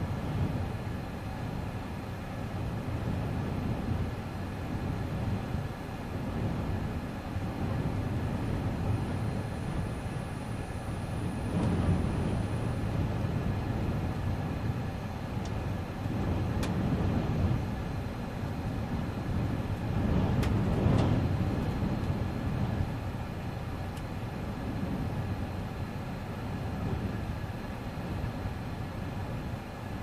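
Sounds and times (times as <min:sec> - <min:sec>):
wind gusts buffeting a car: 0:00.0 - 0:30.0.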